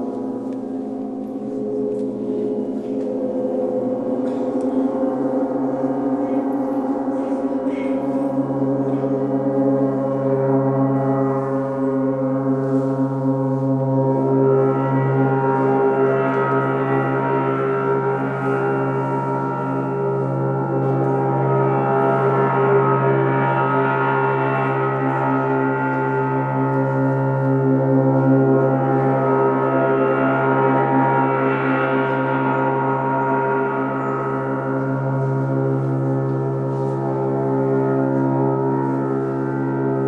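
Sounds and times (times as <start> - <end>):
gongs ringing: 0.0 - 40.0.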